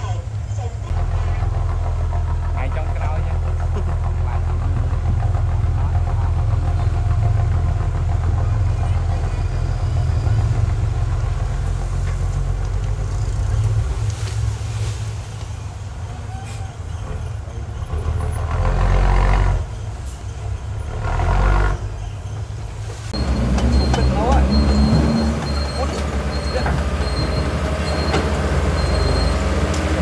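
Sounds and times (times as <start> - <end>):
diesel machinery rumbling: 0.0 - 30.0.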